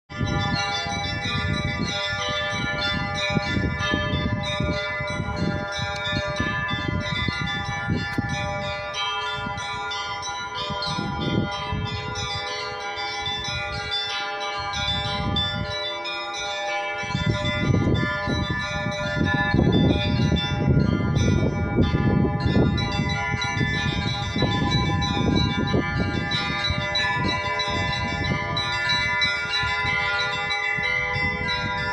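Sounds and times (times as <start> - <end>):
church bells ringing: 0.1 - 31.9.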